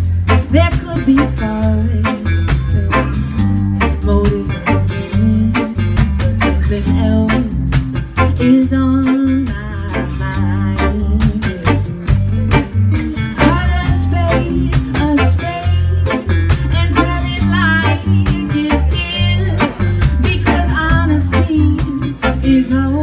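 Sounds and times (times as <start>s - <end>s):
live rock band playing: 0.0s - 23.0s
steady bass line: 0.0s - 23.0s.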